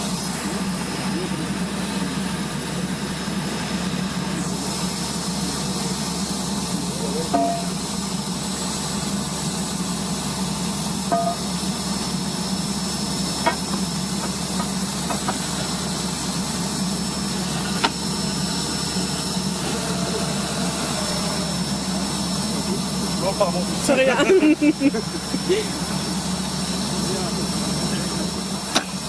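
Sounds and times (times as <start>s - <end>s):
drilling rig engine drone: 0.0s - 29.0s.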